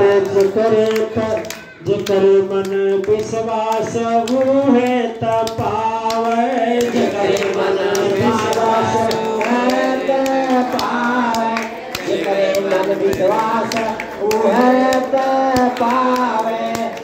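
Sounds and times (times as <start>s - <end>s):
congregation clapping in time: 0.0s - 17.0s
man singing into microphone: 0.0s - 17.0s.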